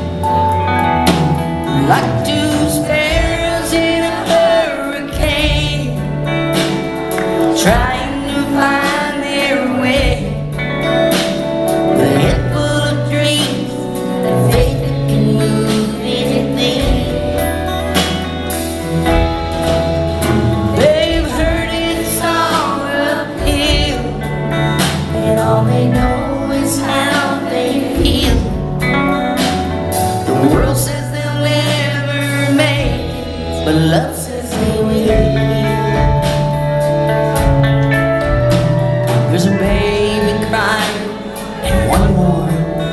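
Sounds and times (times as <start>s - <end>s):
country band playing: 0.0s - 42.9s
woman singing lead vocals: 0.0s - 42.9s.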